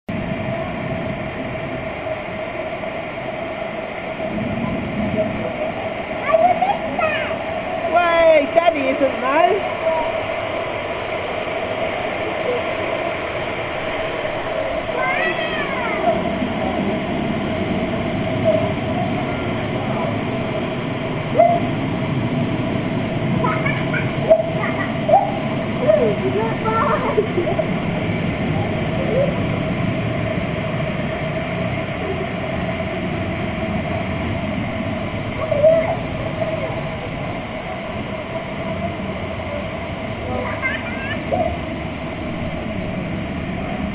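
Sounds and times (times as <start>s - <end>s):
water rushing in lazy river: 0.1s - 43.9s.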